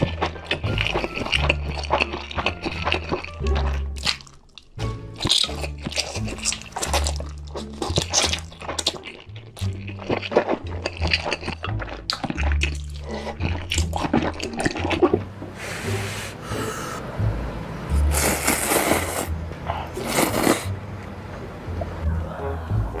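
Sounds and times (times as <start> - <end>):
slurping and chewing noodles: 0.0 - 16.9, 18.0 - 20.8.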